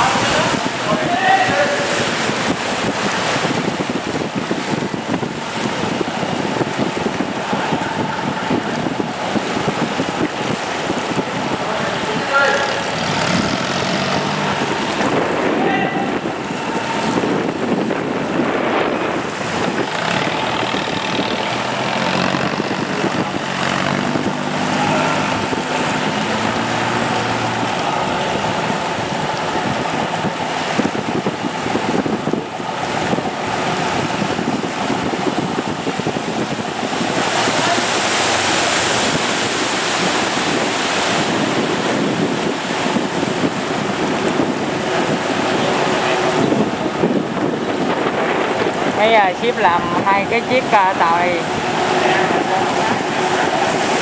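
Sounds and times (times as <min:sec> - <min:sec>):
boat engine running: 0:00.0 - 0:54.0
rushing water: 0:00.0 - 0:54.0
wind buffeting microphone: 0:00.0 - 0:54.0.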